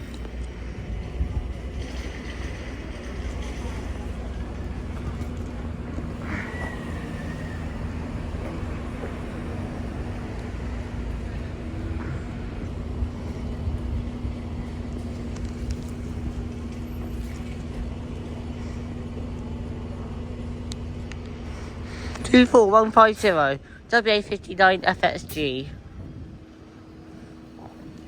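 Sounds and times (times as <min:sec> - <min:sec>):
diesel bus engine rumbling: 0:00.0 - 0:28.0.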